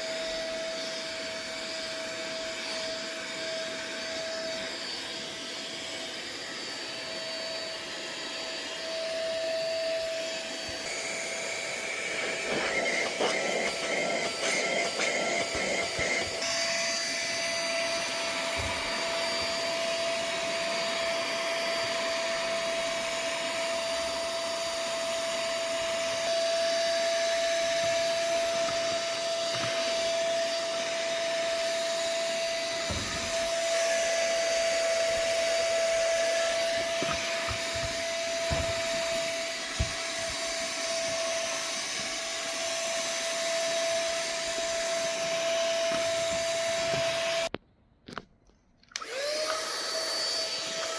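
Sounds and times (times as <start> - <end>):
handheld vacuum cleaner whine: 0.0 - 47.6, 48.9 - 50.9.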